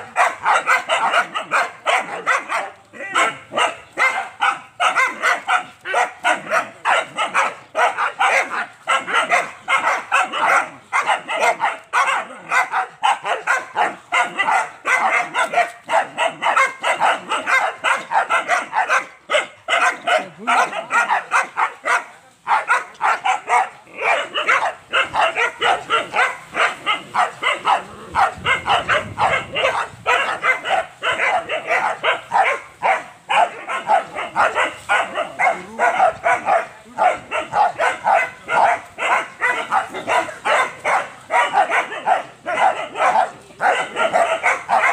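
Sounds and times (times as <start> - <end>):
dogs barking rapidly: 0.0 - 44.9.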